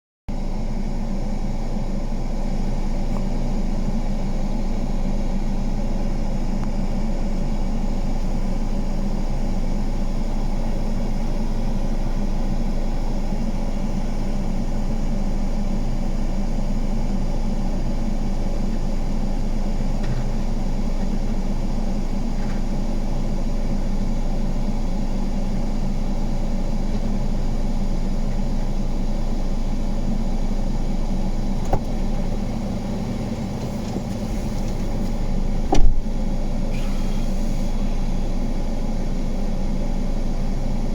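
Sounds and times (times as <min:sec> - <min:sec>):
diesel engine running steadily: 0:00.3 - 0:40.9.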